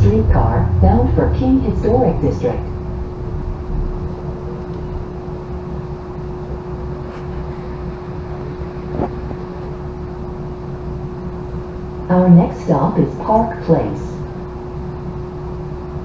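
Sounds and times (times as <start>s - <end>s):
constant hum: 0.0s - 16.0s
streetcar cabin rumble: 0.0s - 16.0s.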